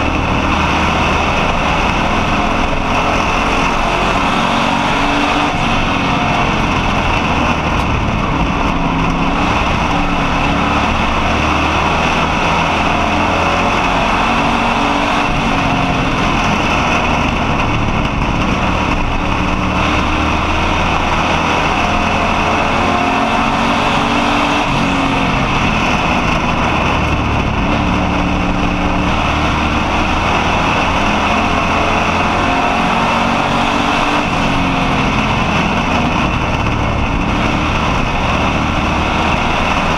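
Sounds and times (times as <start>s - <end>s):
race car engine droning: 0.0s - 39.9s.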